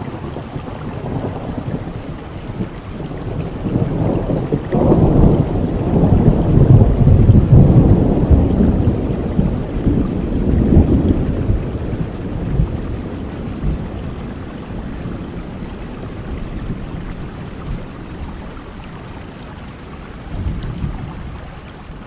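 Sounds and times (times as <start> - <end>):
rolling thunder: 0.0 - 19.0, 19.8 - 22.0
steady rain: 0.0 - 22.0.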